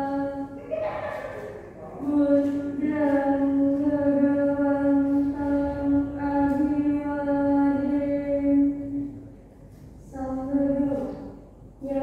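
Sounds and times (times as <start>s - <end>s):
woman chanting in monotone: 0.0s - 9.3s, 10.0s - 12.0s.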